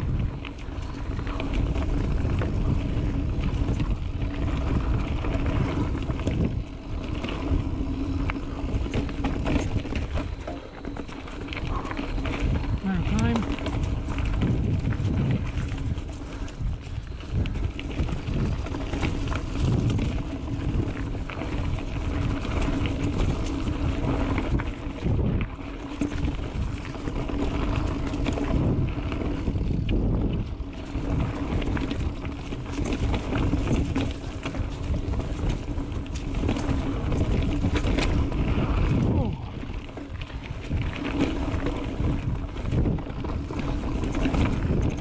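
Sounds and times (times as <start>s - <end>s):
tyres rumbling on trail: 0.0s - 45.0s
wind on microphone: 0.0s - 45.0s
bike knocks and rattles: 0.8s - 45.0s.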